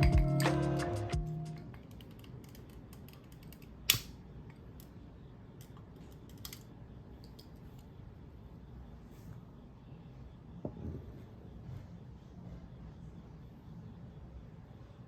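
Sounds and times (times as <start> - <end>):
low room noise: 0.0 - 15.0.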